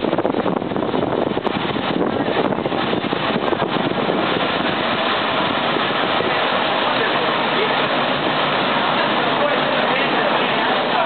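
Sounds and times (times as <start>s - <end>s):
railcar running noise: 0.0s - 11.0s
wind rushing on microphone: 0.0s - 11.0s.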